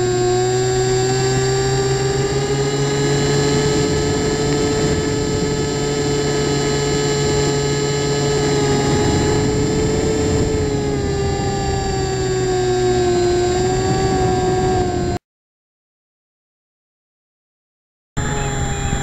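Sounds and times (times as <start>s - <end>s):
model airplane propeller whine: 0.0s - 15.2s, 18.2s - 19.0s.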